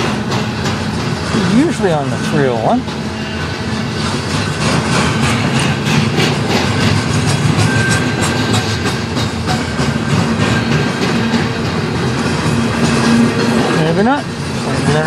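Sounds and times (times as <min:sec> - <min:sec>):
wheels clicking over rail joints: 0:00.0 - 0:03.1, 0:04.1 - 0:15.0
train wheels rumbling on rail: 0:00.0 - 0:15.0.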